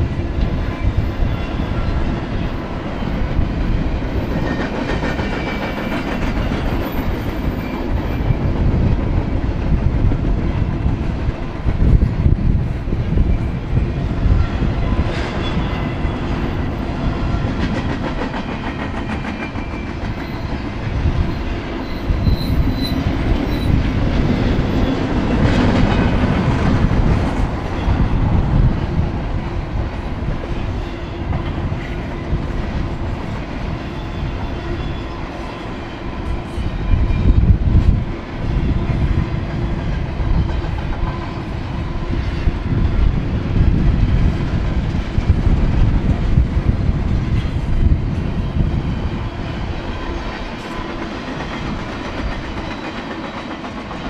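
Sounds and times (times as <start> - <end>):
freight train wheels rumbling: 0.0 - 54.0
train clattering: 0.0 - 54.0.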